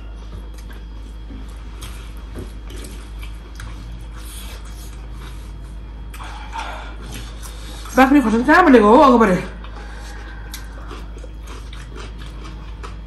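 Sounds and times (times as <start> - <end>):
chewing: 0.0 - 8.0, 9.5 - 13.0.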